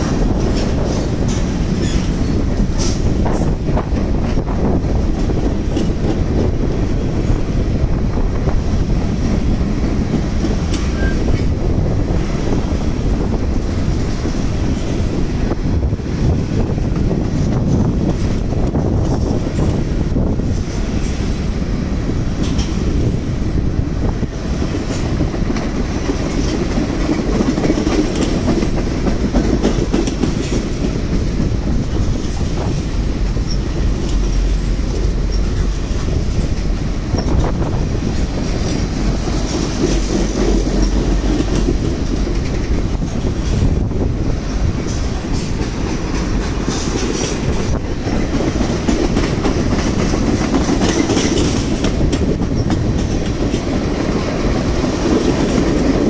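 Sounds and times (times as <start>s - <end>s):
freight train wheels rumbling: 0.0s - 56.0s
rail clicks: 0.0s - 56.0s.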